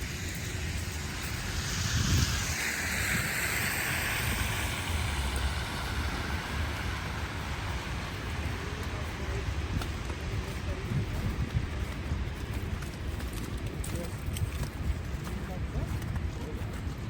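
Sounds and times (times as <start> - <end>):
street noise hiss: 0.0 - 17.0
wind rumbling on microphone: 0.0 - 17.0.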